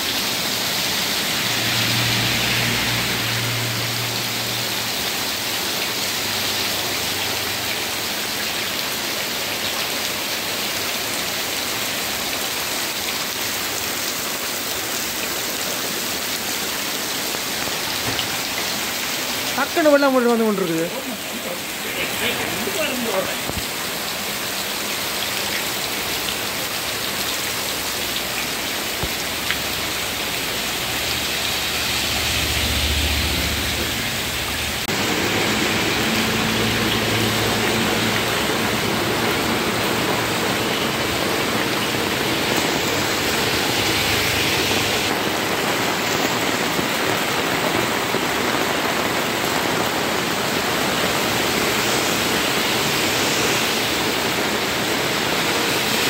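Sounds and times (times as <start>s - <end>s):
heavy rain pouring: 0.0s - 56.0s
car driving through water: 0.2s - 56.0s.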